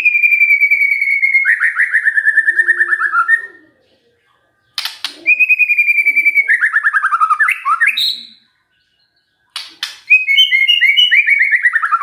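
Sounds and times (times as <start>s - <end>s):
bird whistling and trilling: 0.0s - 3.8s, 4.8s - 8.5s, 9.8s - 12.0s.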